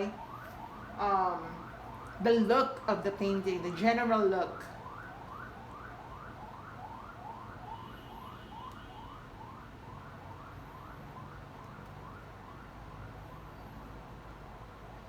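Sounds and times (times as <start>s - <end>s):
electronic siren sweeping: 0.0s - 14.0s.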